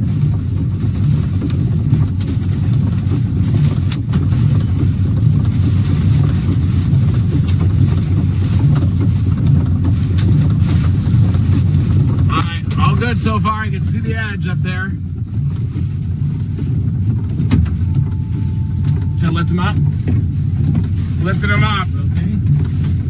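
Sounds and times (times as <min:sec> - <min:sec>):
wind rumbling against vehicle: 0:00.0 - 0:23.0.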